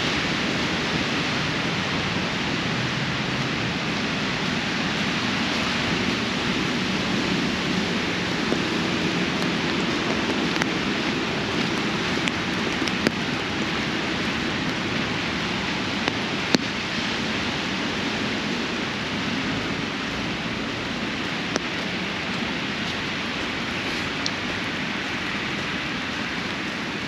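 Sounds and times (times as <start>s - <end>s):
rain pattering on an umbrella: 0.0s - 27.0s.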